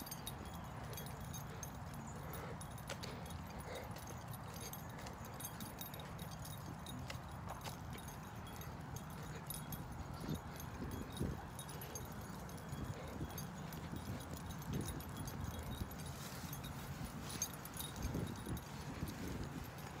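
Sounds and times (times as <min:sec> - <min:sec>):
footsteps walking: 0:00.0 - 0:20.0.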